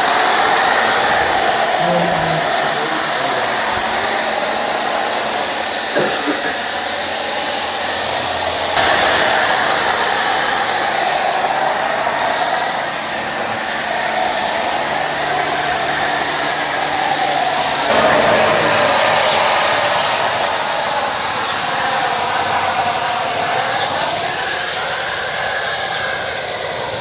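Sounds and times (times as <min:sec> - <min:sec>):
pressure washer spraying water: 0:00.0 - 0:27.0.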